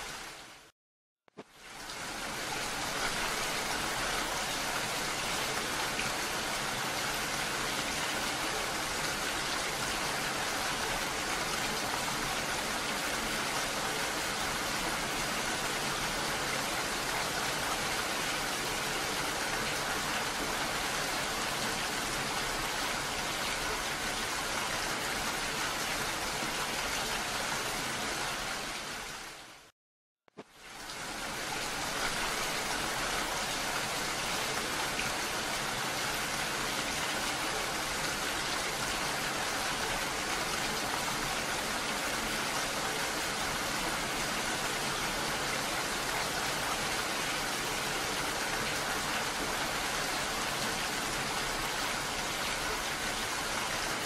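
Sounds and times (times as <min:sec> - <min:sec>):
heavy rain falling: 0:01.7 - 0:29.6, 0:30.6 - 0:54.0.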